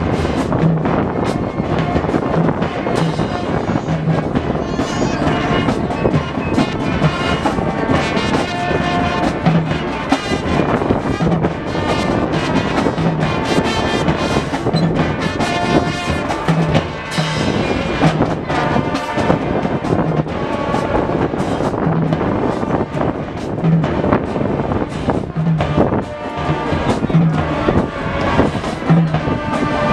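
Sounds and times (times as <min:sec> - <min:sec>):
drums beating: 0:00.0 - 0:29.9
brass section sustaining notes: 0:01.1 - 0:23.6, 0:24.2 - 0:29.9.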